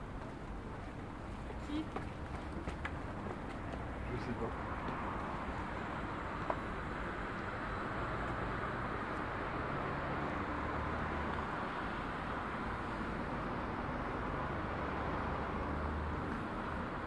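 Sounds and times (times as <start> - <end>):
distant traffic noise: 0.0 - 17.0.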